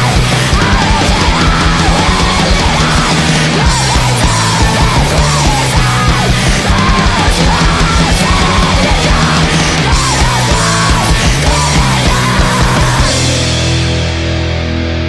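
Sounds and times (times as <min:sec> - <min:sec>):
screamo band playing: 0:00.0 - 0:14.9.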